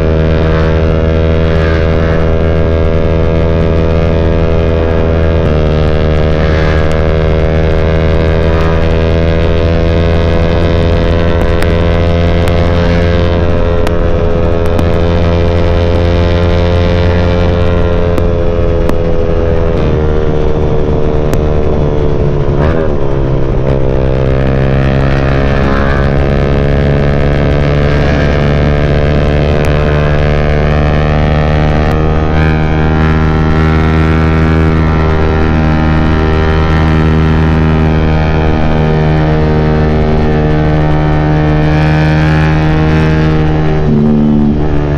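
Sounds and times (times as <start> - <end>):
motorcycle engine cruising: 0.0 - 44.9.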